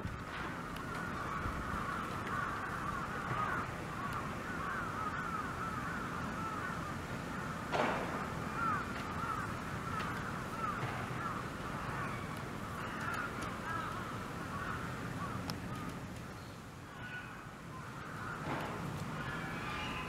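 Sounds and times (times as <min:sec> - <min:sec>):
steady background noise: 0:00.0 - 0:20.0
animals calling: 0:00.6 - 0:20.0.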